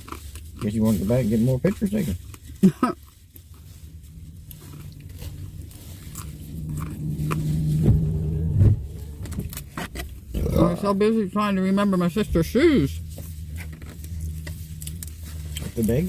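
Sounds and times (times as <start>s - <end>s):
person chewing and biting: 0.0s - 1.1s, 1.7s - 10.7s, 13.0s - 16.0s
low steady hum: 0.0s - 16.0s.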